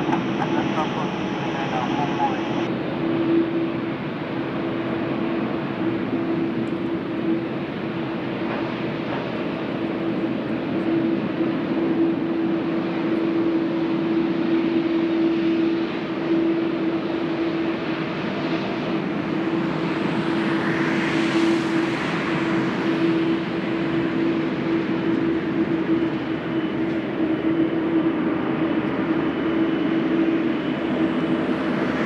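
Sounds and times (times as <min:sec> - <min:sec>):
jet airliner taking off: 0:00.0 - 0:32.0.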